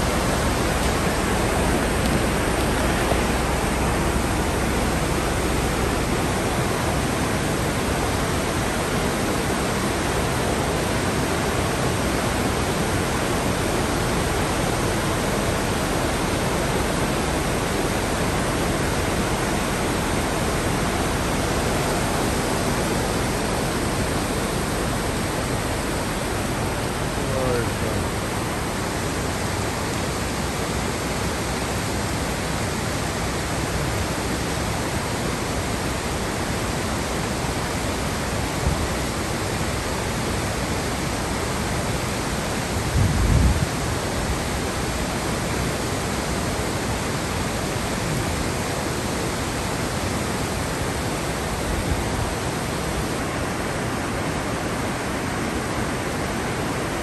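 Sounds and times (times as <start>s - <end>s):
floodwater rushing across pavement: 0.0s - 57.0s.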